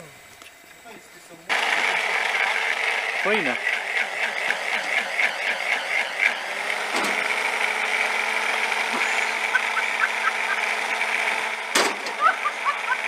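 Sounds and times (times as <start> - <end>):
camping stove hissing: 0.0 - 13.0.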